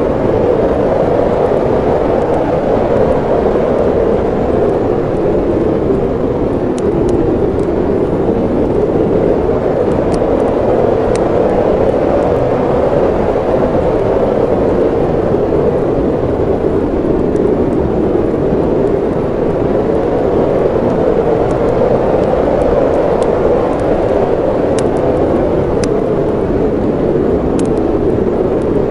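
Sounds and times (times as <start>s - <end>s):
roaring snowstorm wind: 0.0s - 28.9s
wood fire crackling: 0.0s - 28.9s.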